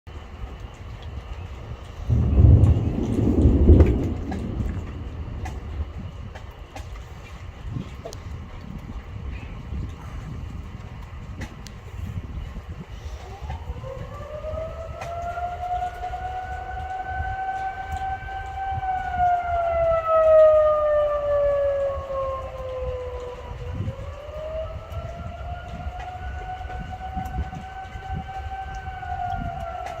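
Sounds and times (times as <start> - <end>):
steady low rumbling: 0.1 - 30.0
tornado warning siren wailing: 0.1 - 30.0.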